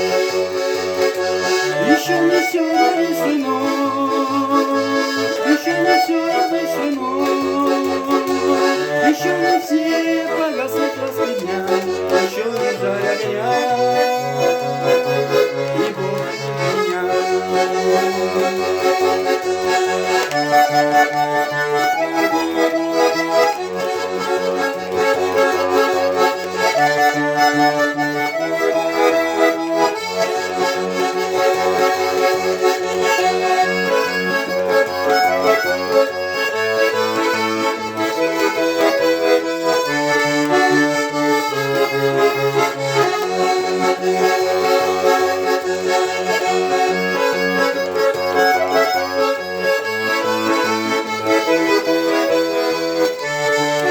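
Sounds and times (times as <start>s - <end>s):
button accordion playing: 0.0s - 53.9s.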